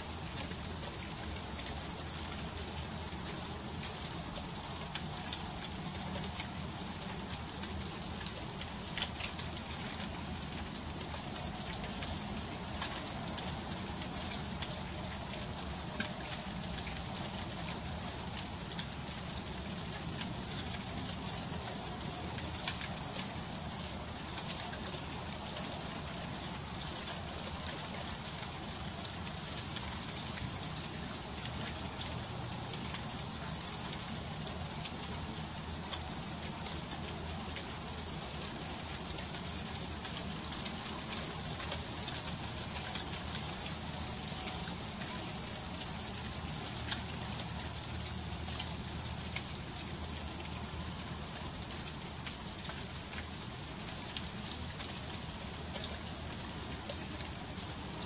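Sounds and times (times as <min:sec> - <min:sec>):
freezing rain hissing: 0:00.0 - 0:58.0.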